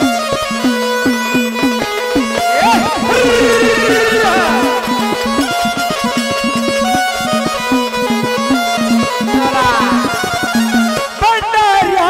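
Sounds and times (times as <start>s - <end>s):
drum strokes: 0.0s - 11.2s
held-note melody: 0.0s - 11.2s.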